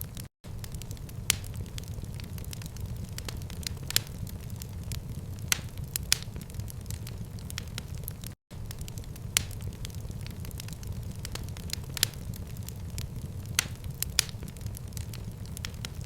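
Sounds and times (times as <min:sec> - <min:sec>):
fire crackling: 0:00.0 - 0:16.0
sharp pops of fire: 0:00.0 - 0:16.0.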